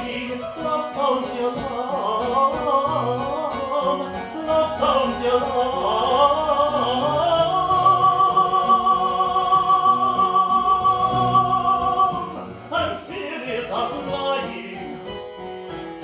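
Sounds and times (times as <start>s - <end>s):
operatic tenor singing: 0.0s - 15.3s
harpsichord accompaniment: 0.0s - 16.0s.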